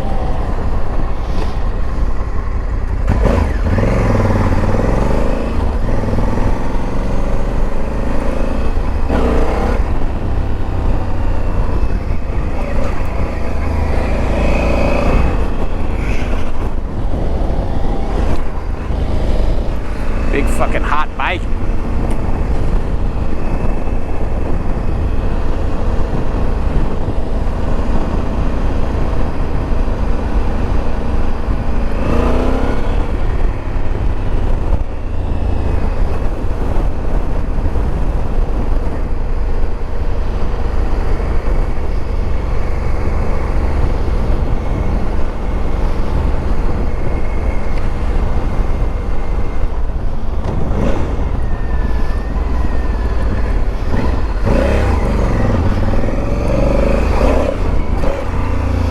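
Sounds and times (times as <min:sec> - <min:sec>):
motorcycle engine running: 0:00.0 - 0:58.9
wind rush on microphone: 0:00.0 - 0:58.9.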